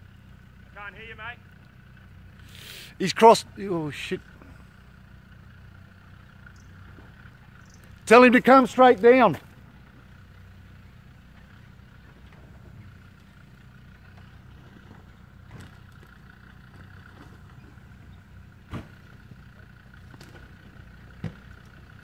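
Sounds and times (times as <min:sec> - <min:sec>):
faint engine at low revs: 0:00.0 - 0:22.0.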